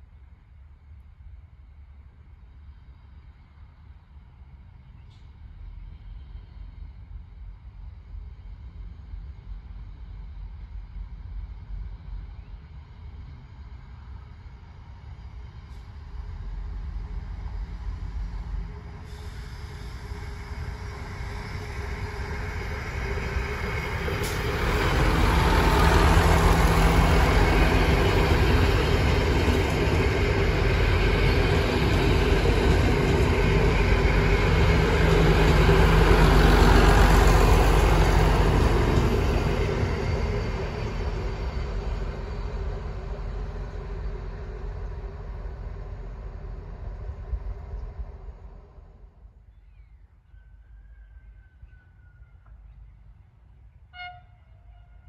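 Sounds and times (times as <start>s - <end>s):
diesel train engine hum: 0.0s - 55.0s
train wheels rumbling on rails: 2.6s - 52.7s.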